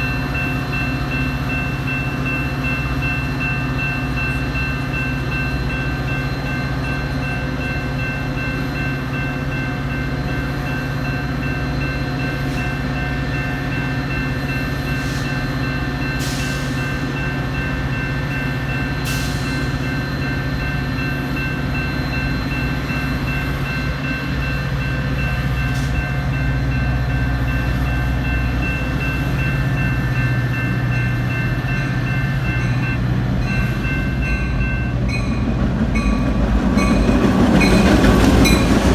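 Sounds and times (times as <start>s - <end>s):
freight train rumble: 0.0s - 38.9s
train high whine: 0.0s - 38.9s.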